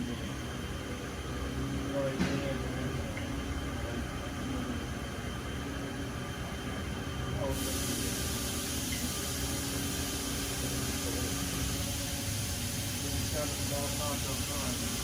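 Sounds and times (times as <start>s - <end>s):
machining center humming: 0.0s - 15.0s.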